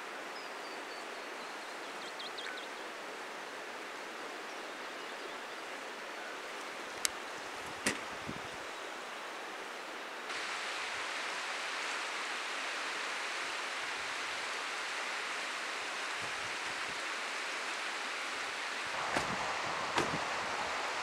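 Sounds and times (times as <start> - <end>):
steady rushing outdoor ambience: 0.0 - 21.0.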